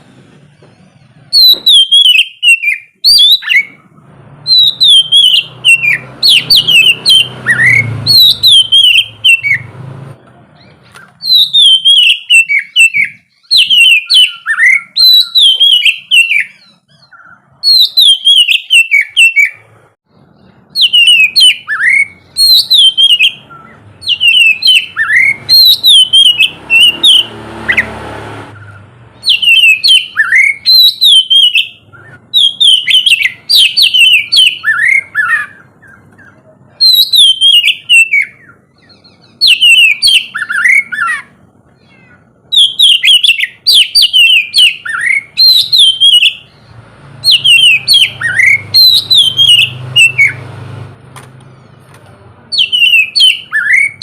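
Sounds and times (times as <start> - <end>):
bird singing whistled notes: 0.9 - 9.7, 10.6 - 19.6, 20.3 - 28.0, 28.6 - 50.4, 52.5 - 54.0.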